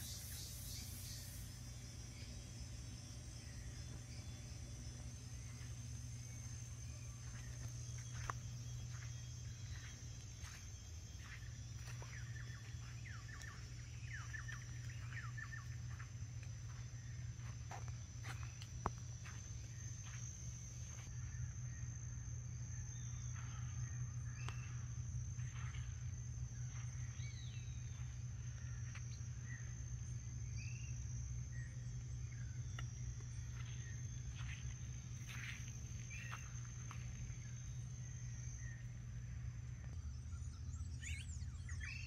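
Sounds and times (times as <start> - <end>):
insect drone: 0.0 - 42.0
low steady hum: 0.0 - 42.0.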